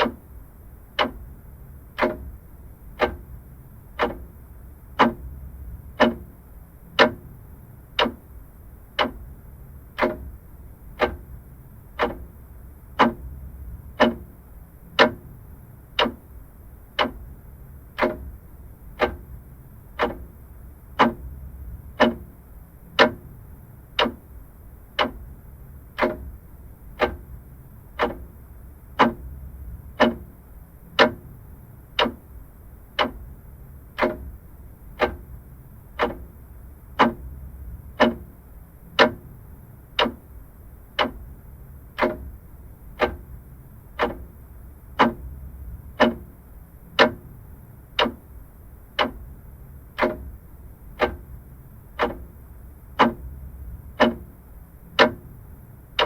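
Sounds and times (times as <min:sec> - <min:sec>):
mechanical clock ticking: 0:00.0 - 0:56.0.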